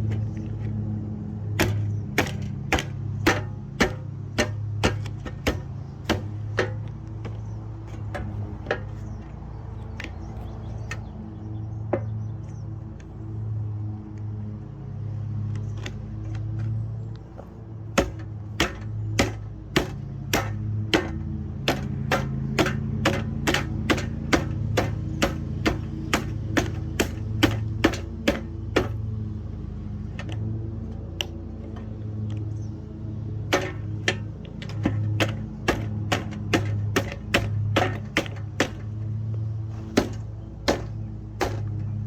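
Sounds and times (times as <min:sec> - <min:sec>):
box fan humming: 0:00.0 - 0:12.6, 0:15.7 - 0:42.0.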